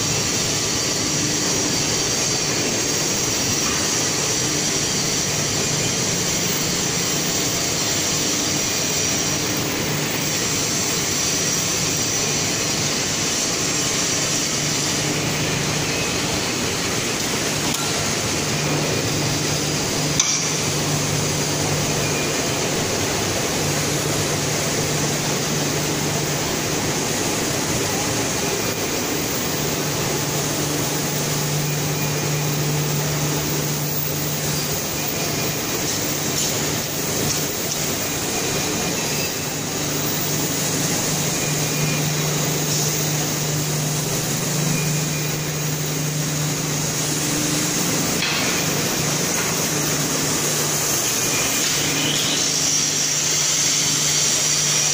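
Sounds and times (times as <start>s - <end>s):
machinery drone: 0.0s - 54.9s.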